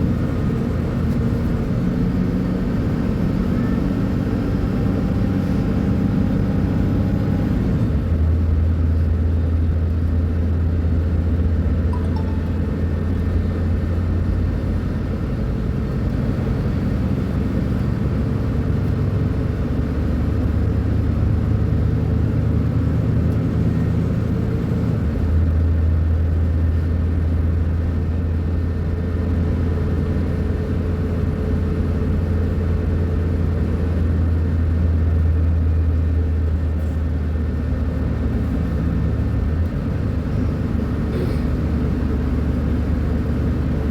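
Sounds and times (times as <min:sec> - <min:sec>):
bus diesel engine rumbling: 0:00.0 - 0:43.9.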